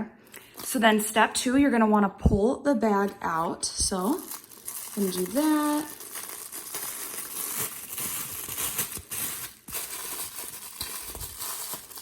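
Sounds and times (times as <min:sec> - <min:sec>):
plastic bag crinkling: 0:00.2 - 0:01.3, 0:03.0 - 0:12.0.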